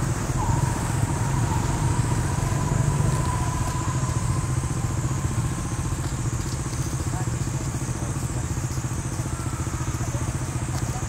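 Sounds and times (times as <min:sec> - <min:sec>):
small engine rumbling: 0:00.0 - 0:11.0.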